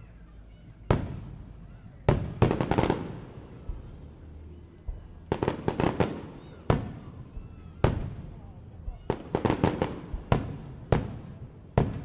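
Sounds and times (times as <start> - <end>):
fireworks bangs with echo: 0.8 - 12.0.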